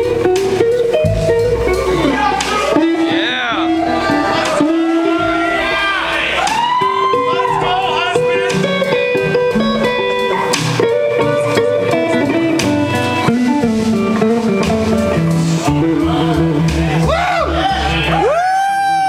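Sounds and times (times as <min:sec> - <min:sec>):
bass guitar: 0:00.0 - 0:19.0
drums: 0:00.0 - 0:19.0
electric guitars playing melodic lines: 0:00.0 - 0:19.0.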